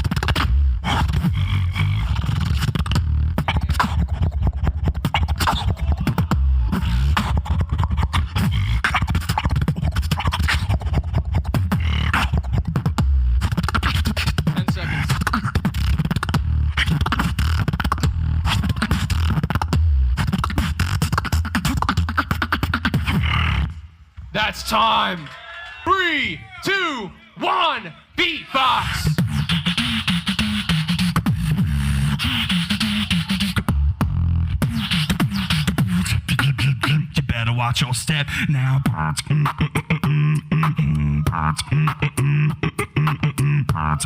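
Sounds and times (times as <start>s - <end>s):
person beatboxing: 0.0s - 24.6s, 26.6s - 44.0s.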